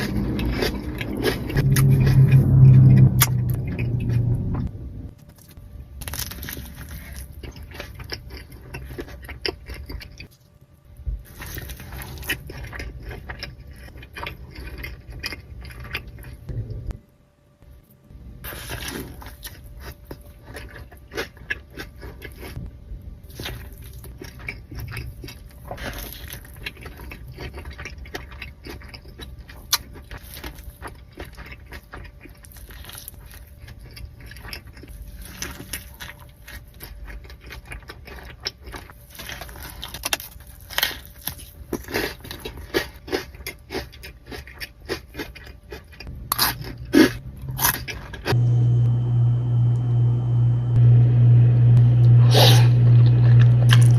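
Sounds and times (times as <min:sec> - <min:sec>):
chewing and crunching food: 0:00.0 - 0:17.0, 0:18.4 - 0:48.4, 0:52.2 - 0:53.9.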